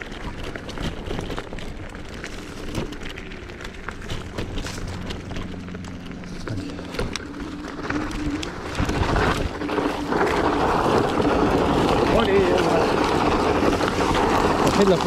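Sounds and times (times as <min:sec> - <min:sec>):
electric scooter motor whining: 0:00.0 - 0:15.0
wheel spinning in loose dirt: 0:00.0 - 0:15.0.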